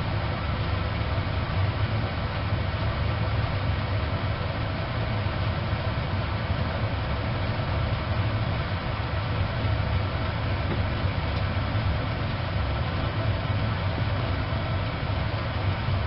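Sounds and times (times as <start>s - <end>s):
stove fire rushing: 0.0s - 16.0s.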